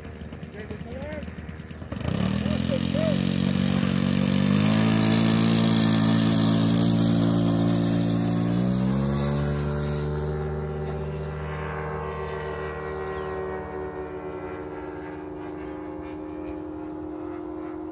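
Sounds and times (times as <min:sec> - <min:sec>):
model airplane engine revving: 0:00.0 - 0:17.9.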